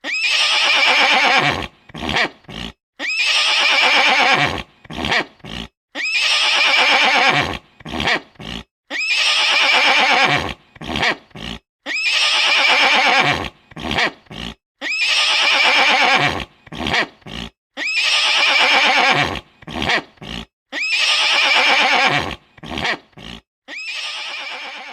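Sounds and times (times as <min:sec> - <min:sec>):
horse whinnying: 0:00.0 - 0:24.9.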